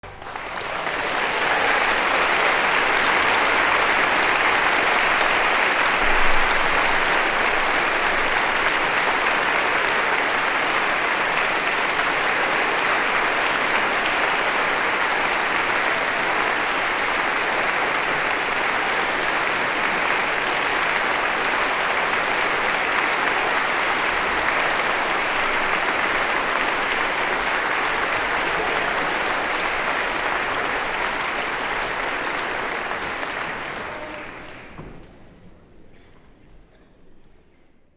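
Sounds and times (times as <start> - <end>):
crowd applauding: 0.0 - 35.3.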